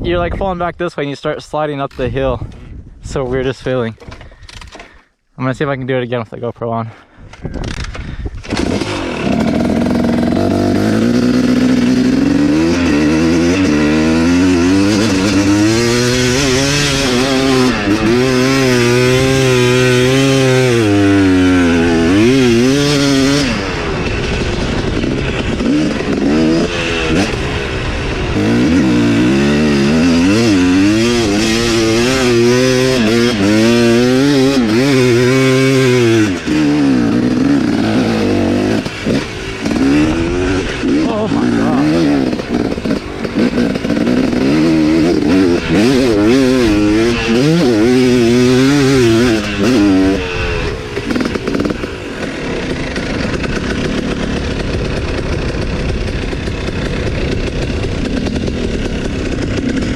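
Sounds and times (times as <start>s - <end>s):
dirt bike engine revving: 7.7s - 59.9s.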